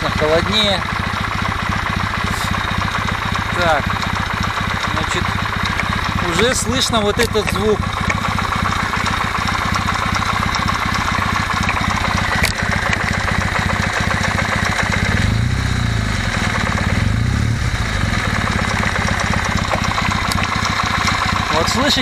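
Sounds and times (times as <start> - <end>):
motorcycle engine idling: 0.0 - 22.0
rhythmic engine tapping knock: 0.0 - 22.0.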